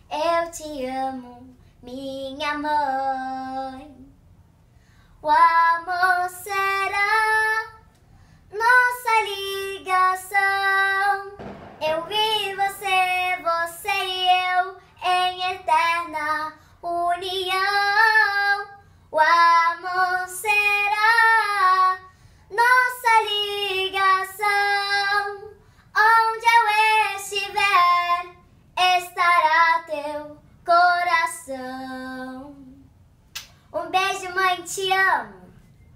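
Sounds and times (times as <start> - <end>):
girl singing unaccompanied: 0.0 - 4.2, 5.2 - 32.9, 33.6 - 35.6.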